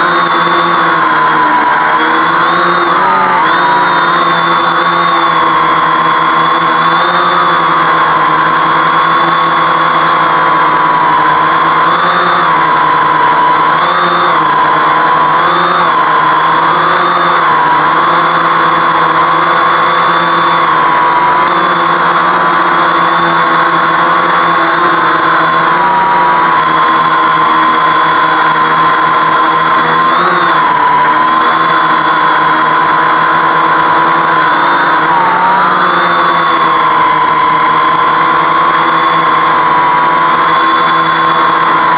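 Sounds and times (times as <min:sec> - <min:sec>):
drone propellers humming: 0:00.0 - 0:41.9.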